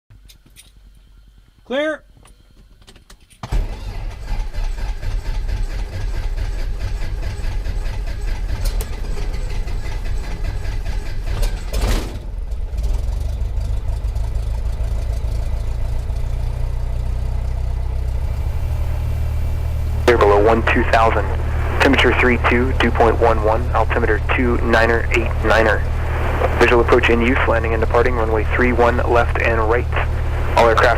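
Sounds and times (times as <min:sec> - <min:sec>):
piston aircraft engine idling: 0:03.5 - 0:30.9.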